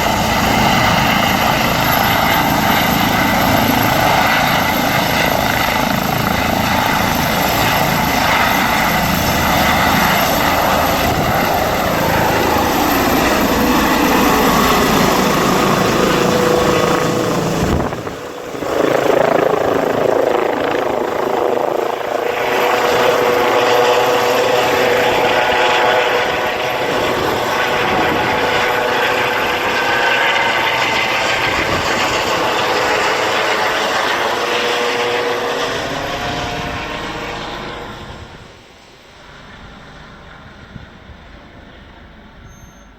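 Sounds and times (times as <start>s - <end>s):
helicopter turbine and rotor: 0.0s - 42.9s.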